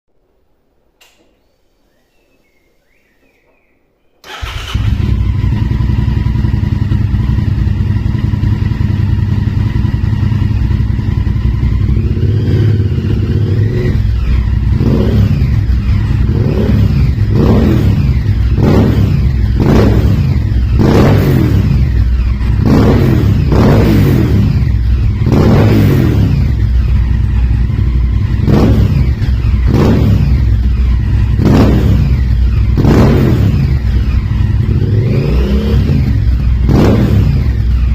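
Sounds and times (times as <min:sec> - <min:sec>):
motorcycle engine idling and revving: 0:04.2 - 0:37.9.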